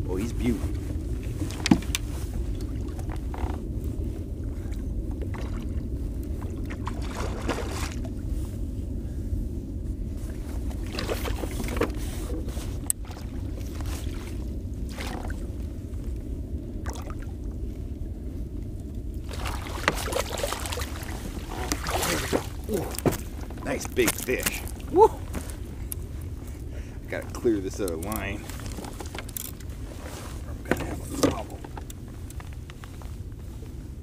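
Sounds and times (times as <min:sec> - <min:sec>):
rumble of water and wind: 0:00.0 - 0:34.0.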